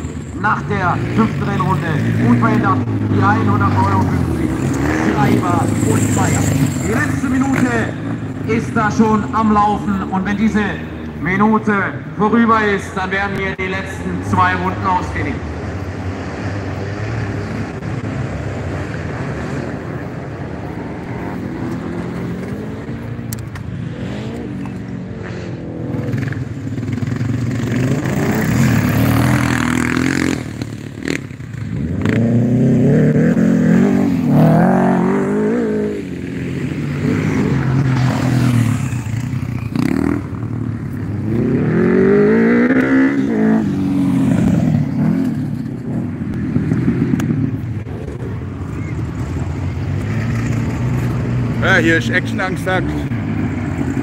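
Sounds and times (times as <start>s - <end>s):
racing motorcycle engines revving: 0.0s - 54.0s.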